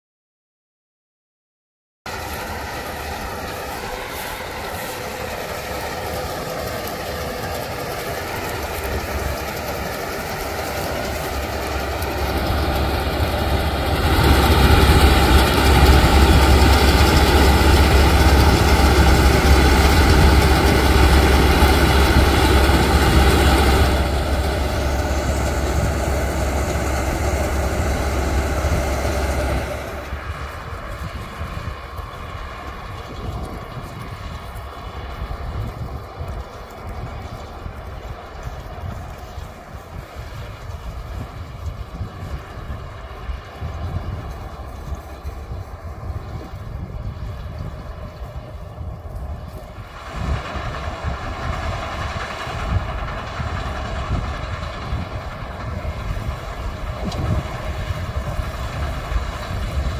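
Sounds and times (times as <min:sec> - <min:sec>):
combine harvester engine and threshing: 0:02.1 - 0:59.9.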